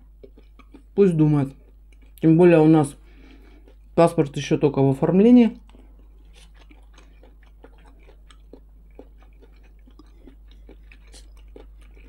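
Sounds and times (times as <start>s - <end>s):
chewing with wet mouth clicks: 0.0s - 2.3s, 3.1s - 4.4s, 5.6s - 12.0s
low steady hum: 0.0s - 12.0s.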